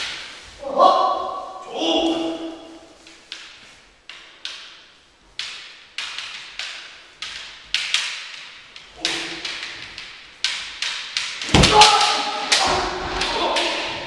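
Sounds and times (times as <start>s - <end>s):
bamboo swords clacking: 2.5s - 14.0s.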